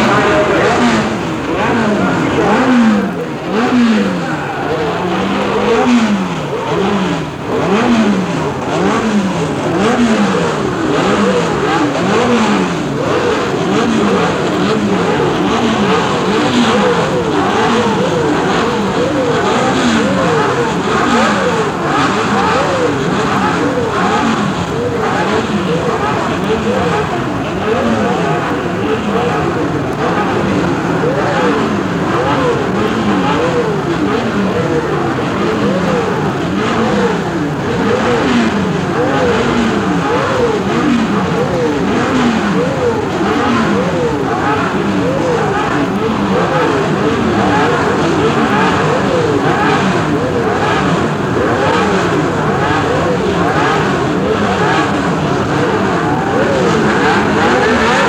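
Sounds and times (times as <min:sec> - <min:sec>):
racing car engines revving: 0:00.0 - 0:58.0.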